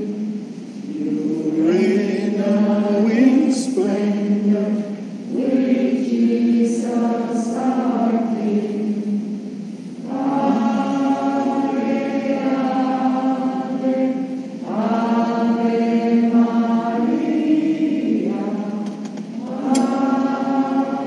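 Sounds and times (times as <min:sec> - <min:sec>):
hymn sung in long held notes: 0:00.0 - 0:21.0.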